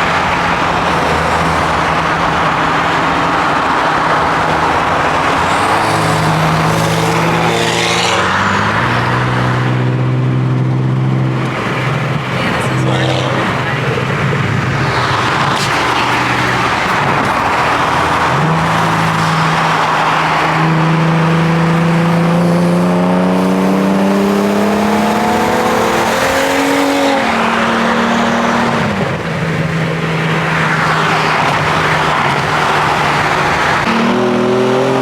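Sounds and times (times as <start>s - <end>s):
car engine and exhaust pulling: 0.0s - 35.0s
road noise rushing: 0.0s - 35.0s.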